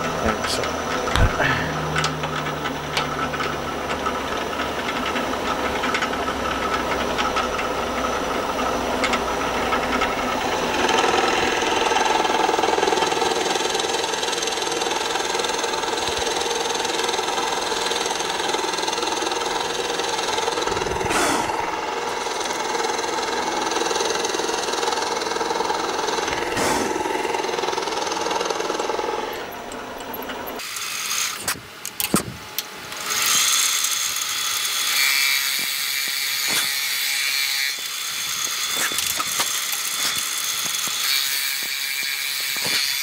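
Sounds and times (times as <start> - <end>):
drill press boring into wood: 0.0 - 32.3, 32.9 - 43.0.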